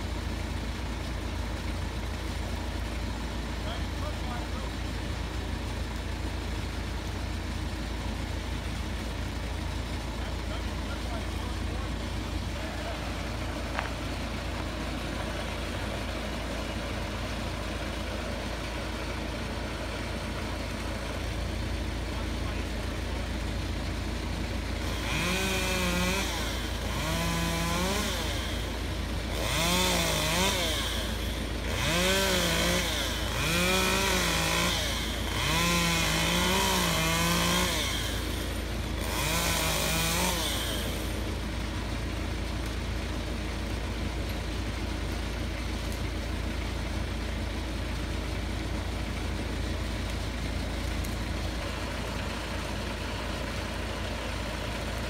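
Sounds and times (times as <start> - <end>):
truck engine idling: 0.0 - 55.0
chainsaw revving: 1.6 - 55.0.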